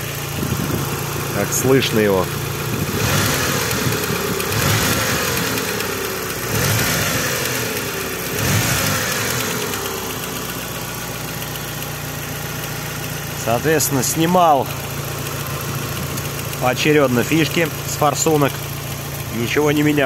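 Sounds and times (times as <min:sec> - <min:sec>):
car engine revving and idling: 0:00.0 - 0:20.0
engine knock: 0:00.1 - 0:20.0.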